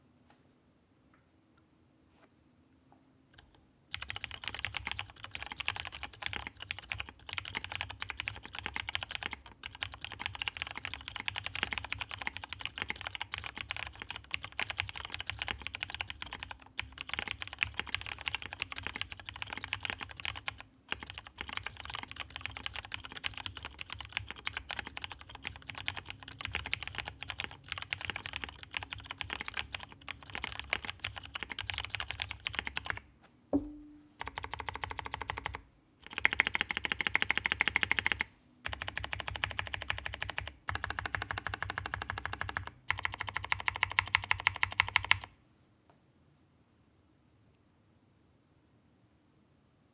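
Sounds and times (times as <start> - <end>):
typing on mechanical keyboard: 3.4 - 33.0, 34.2 - 45.3.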